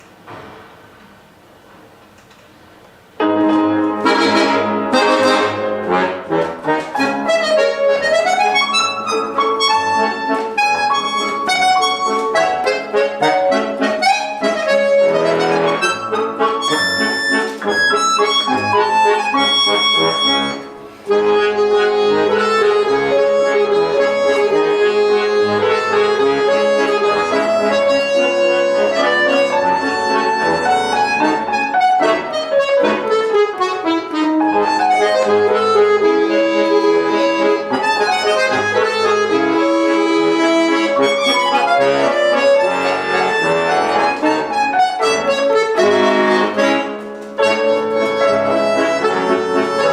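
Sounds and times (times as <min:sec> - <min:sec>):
piano accompaniment: 0:03.0 - 0:49.9
accordion playing a waltz: 0:03.2 - 0:49.9.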